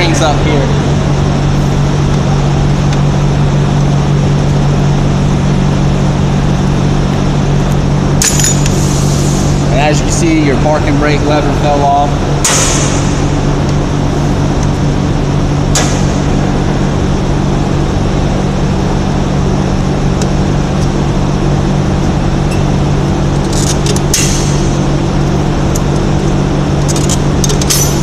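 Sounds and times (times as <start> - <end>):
loud mechanical hum: 0.0 - 28.0.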